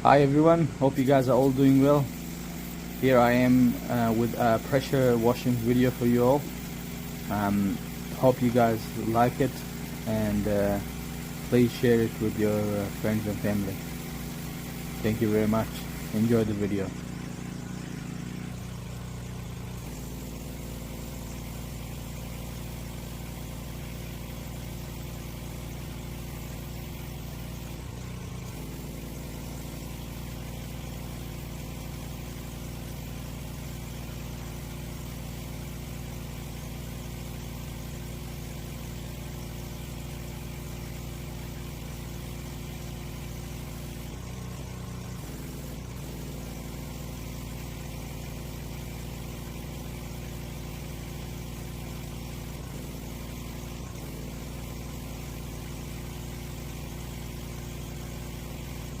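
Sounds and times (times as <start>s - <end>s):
pressure washer engine running: 0.0s - 59.0s
water spray hissing: 0.0s - 59.0s.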